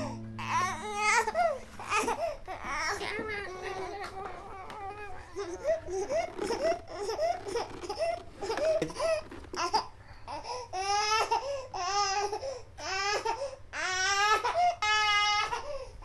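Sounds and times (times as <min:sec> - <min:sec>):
baby crying: 0:00.0 - 0:15.9.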